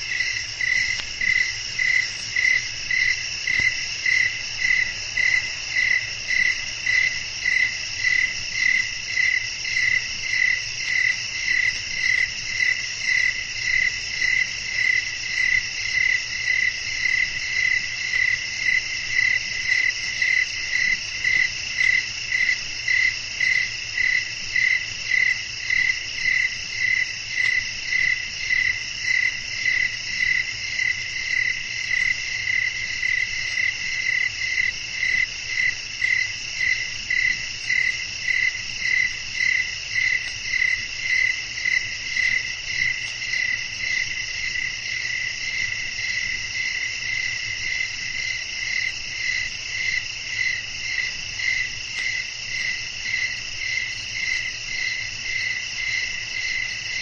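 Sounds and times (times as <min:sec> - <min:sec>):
crickets and insects trilling: 0:00.0 - 0:57.0
louder pulsing insect call: 0:00.0 - 0:57.0.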